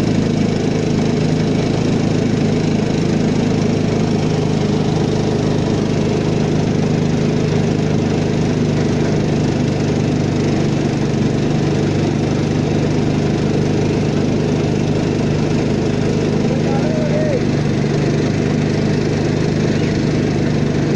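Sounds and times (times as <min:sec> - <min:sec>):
small boat engine droning: 0:00.0 - 0:20.9.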